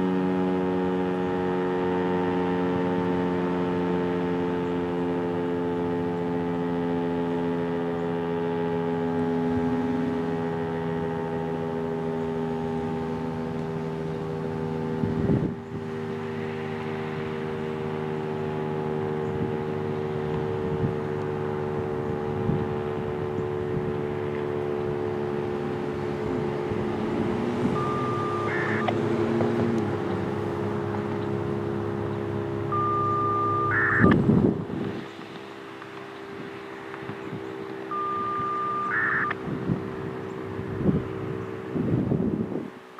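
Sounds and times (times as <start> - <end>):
two-tone warning siren: 0.0 - 41.0.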